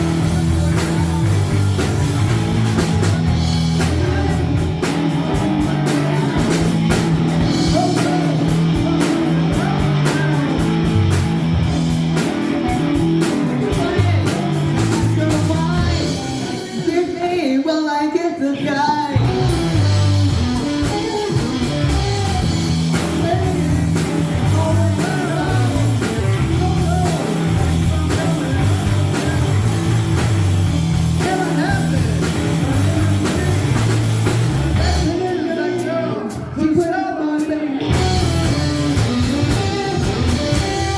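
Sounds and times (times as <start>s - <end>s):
electric guitar: 0.0s - 40.9s
person singing: 0.0s - 40.9s
rock music: 0.0s - 40.9s.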